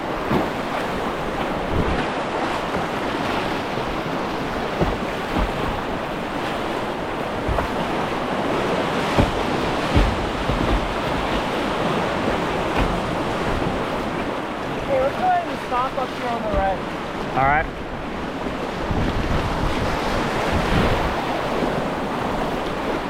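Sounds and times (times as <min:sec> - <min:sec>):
river whitewater rushing: 0:00.0 - 0:23.0
wind buffeting microphone: 0:00.0 - 0:23.0.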